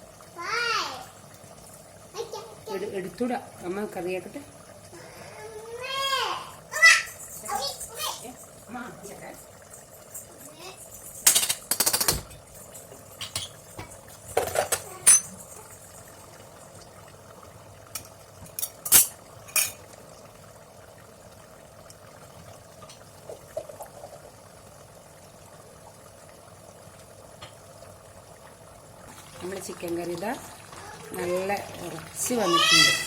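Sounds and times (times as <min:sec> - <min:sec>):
curry simmering: 0:00.0 - 0:33.0.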